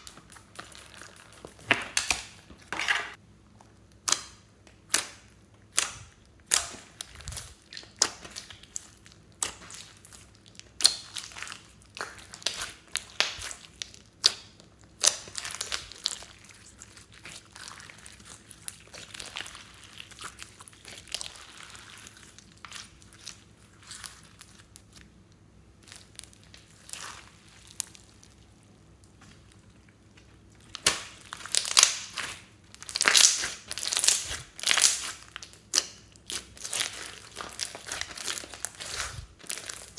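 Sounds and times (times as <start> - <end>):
slime popping and crackling: 0.0 - 2.4, 4.0 - 39.9.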